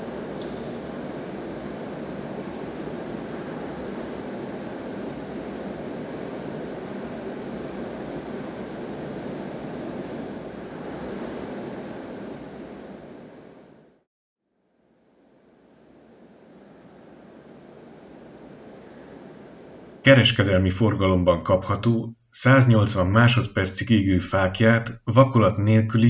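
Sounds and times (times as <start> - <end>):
large hall ambience: 0.0 - 13.9, 15.0 - 24.8.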